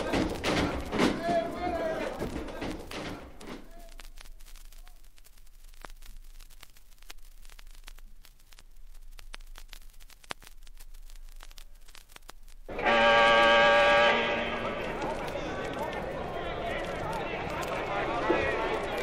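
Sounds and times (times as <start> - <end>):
vinyl crackles and pops: 0.0 - 19.0
vinyl record hiss: 0.0 - 19.0.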